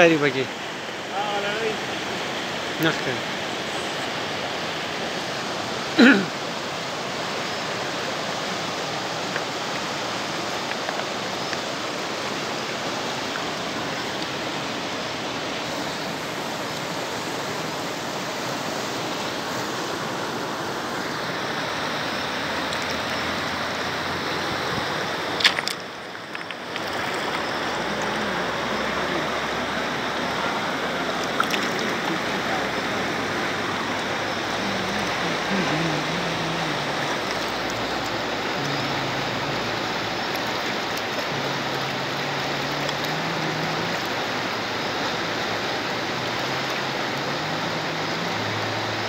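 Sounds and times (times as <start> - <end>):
river rushing over rocks: 0.0 - 49.0.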